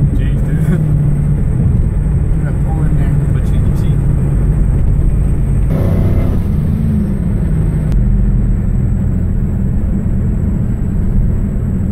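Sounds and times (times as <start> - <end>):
car engine drone: 0.0 - 11.9
road noise: 0.0 - 11.9.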